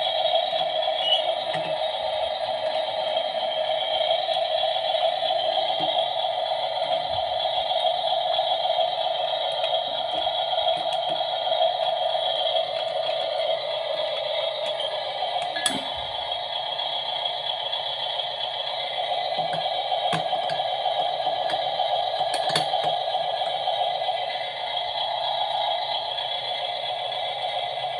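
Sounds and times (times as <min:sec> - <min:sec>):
toy excavator whirring: 0:00.0 - 0:27.9.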